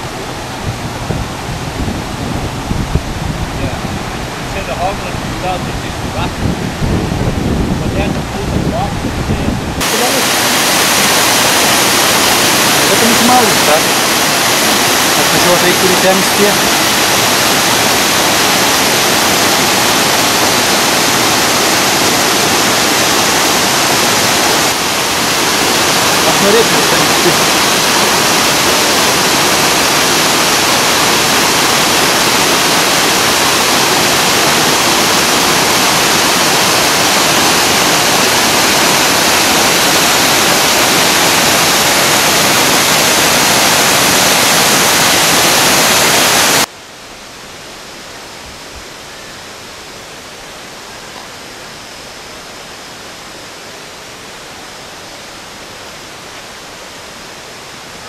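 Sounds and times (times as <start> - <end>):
waterfall roaring: 0.0 - 58.0
background hiss: 9.8 - 58.0.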